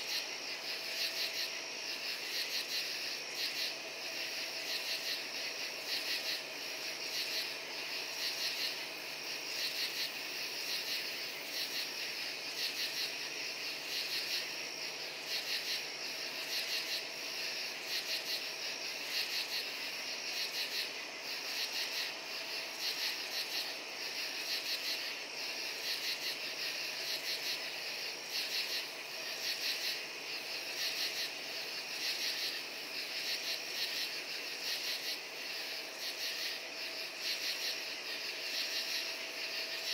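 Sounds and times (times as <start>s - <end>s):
crickets and katydids calling: 0.0s - 39.9s.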